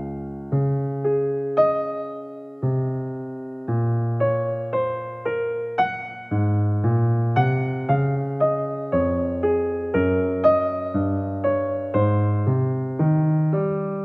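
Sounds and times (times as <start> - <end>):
slow gentle piano melody: 0.0 - 14.0.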